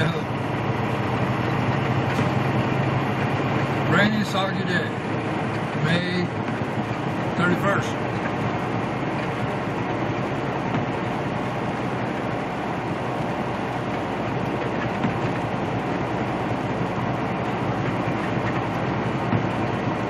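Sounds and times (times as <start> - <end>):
truck engine drone: 0.0 - 20.0.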